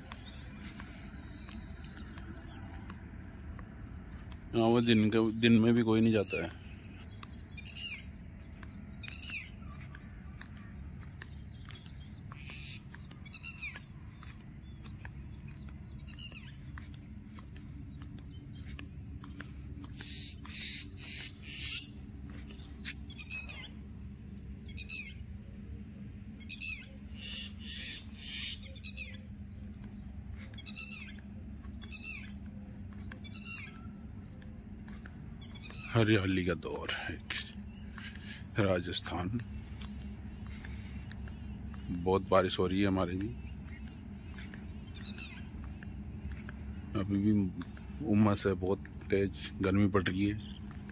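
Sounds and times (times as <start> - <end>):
bird calling: 0.0 - 25.4, 26.4 - 50.9
low steady rumble: 0.0 - 50.9.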